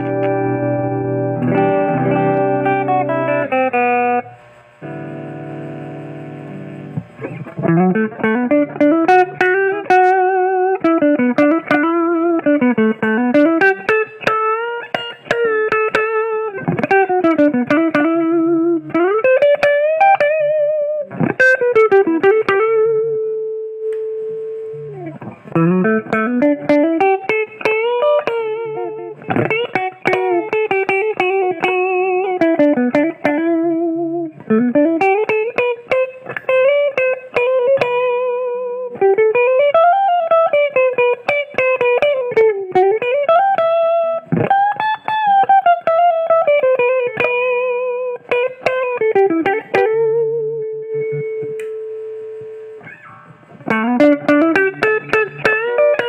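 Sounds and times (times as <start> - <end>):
electric guitar lead melody: 0.0 - 56.0.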